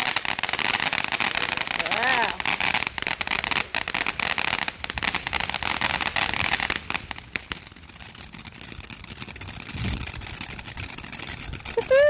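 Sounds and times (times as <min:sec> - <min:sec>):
firework fountain crackling hiss: 0:00.0 - 0:12.0.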